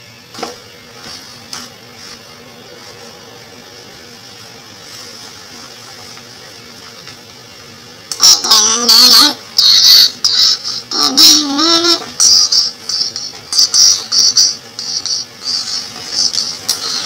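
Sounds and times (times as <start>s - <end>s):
room noise hum and hiss: 0.0s - 17.0s.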